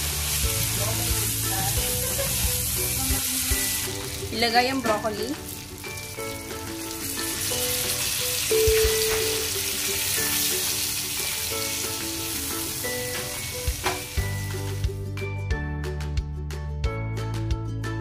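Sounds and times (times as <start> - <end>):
food sizzling in a pan: 0.0 - 15.0
background music: 0.0 - 18.0.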